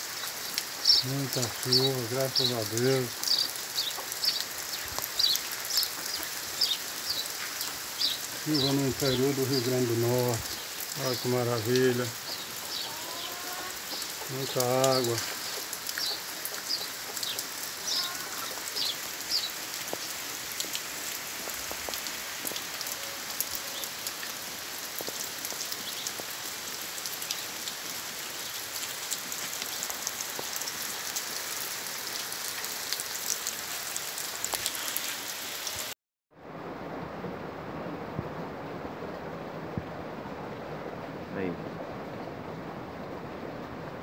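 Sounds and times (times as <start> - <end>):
rain falling on trees: 0.0 - 44.0.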